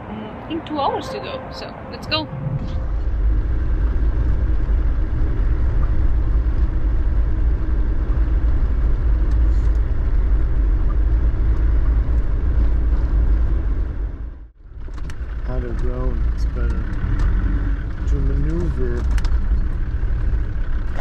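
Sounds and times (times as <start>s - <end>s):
engine and road noise rumble: 0.0s - 21.0s.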